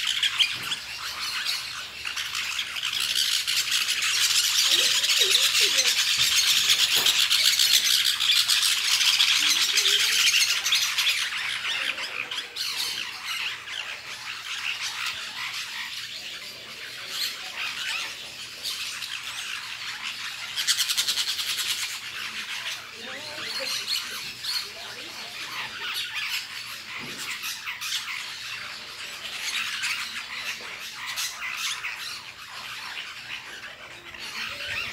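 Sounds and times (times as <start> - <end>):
parakeets screeching and chattering: 0.0 - 34.9.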